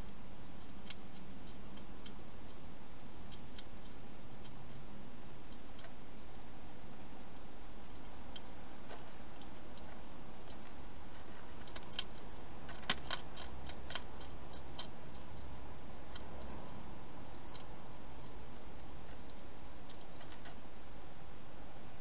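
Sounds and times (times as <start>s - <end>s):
hedgehog crunching food: 0.0s - 20.6s.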